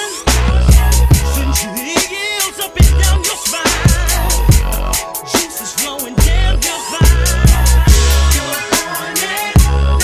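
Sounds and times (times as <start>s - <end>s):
hip hop music: 0.0s - 10.0s
vocals over beat: 0.0s - 10.0s.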